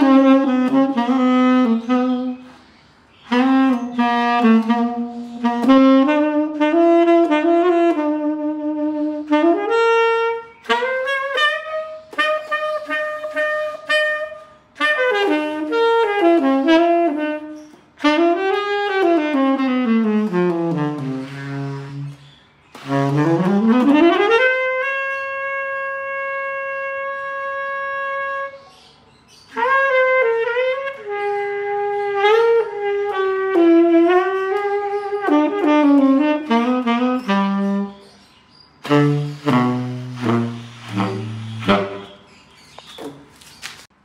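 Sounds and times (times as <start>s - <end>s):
solo jazz saxophone: 0.0s - 44.0s.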